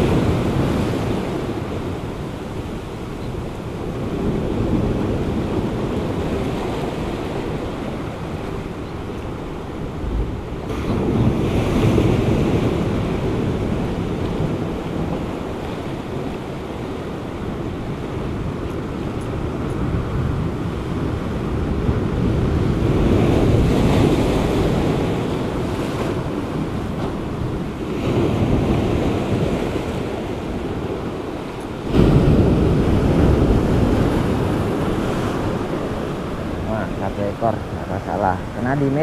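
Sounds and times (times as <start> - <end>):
waves breaking on rocks: 0.0 - 39.0
wind buffeting microphone: 0.0 - 39.0.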